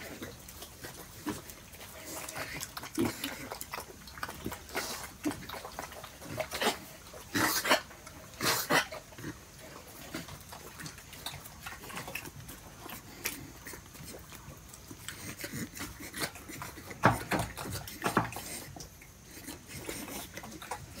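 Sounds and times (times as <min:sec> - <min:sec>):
pigs grunting: 0:00.0 - 0:21.0.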